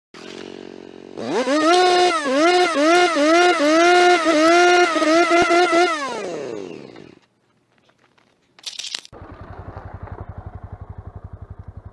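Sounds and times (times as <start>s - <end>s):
motorcycle engine revving: 0.2s - 7.2s, 9.2s - 11.9s.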